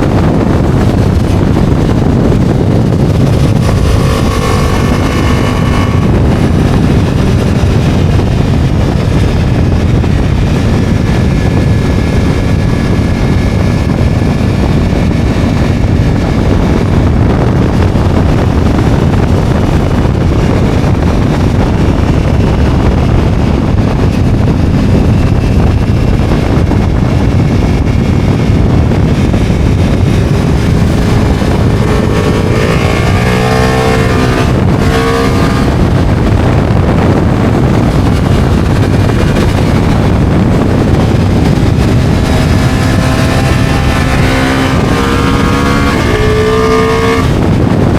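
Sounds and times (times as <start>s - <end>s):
motorcycle engine running: 0.0s - 47.9s
wind rushing over microphone: 0.0s - 47.9s.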